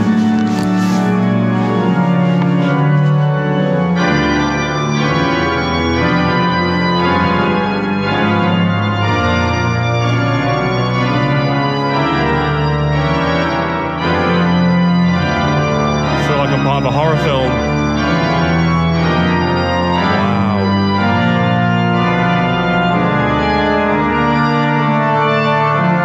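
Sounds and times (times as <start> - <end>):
pipe organ playing chords: 0.0 - 26.0.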